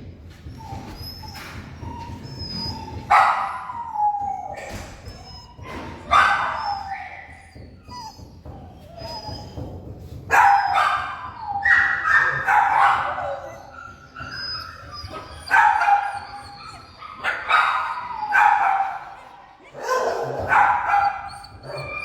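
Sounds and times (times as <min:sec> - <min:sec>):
dogs barking in echoing room: 0:00.0 - 0:22.0
dogs yipping: 0:00.2 - 0:22.0.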